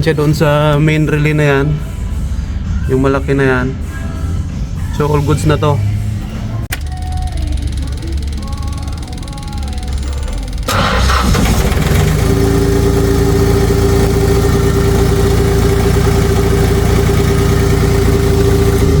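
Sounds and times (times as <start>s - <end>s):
engine rumble with whine: 1.2s - 19.0s.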